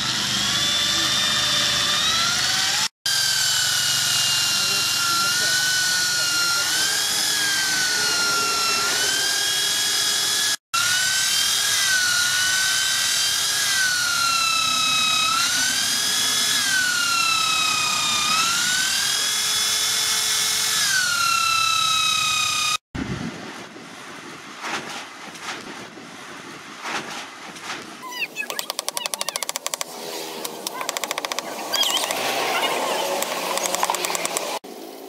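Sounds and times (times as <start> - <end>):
electric drill whining: 0.0 - 22.8, 28.5 - 34.6.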